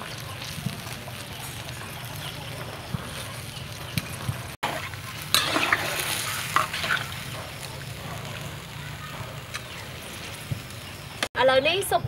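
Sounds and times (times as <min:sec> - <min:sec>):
soup simmering and sizzling: 0:00.0 - 0:11.3
utensil scraping wok: 0:00.0 - 0:11.3.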